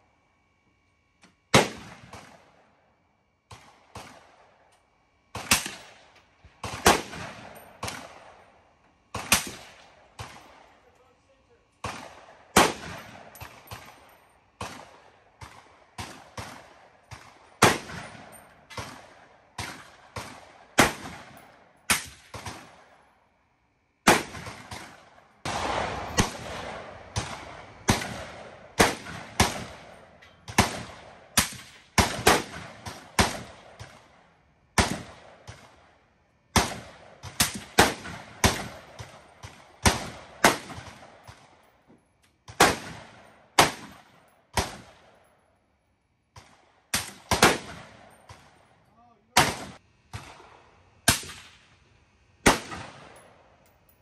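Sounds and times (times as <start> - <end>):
rifle gunshots with echo: 1.5 - 2.7, 3.5 - 4.7, 5.3 - 23.1, 24.0 - 41.7, 42.5 - 45.3, 46.4 - 48.7, 49.3 - 51.7, 52.4 - 53.4.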